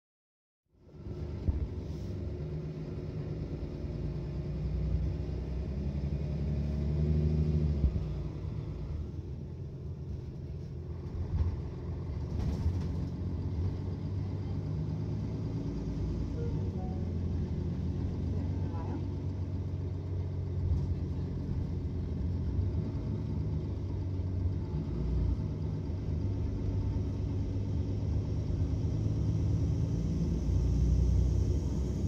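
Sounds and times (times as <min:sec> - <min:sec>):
bus engine running: 0:00.8 - 0:32.0.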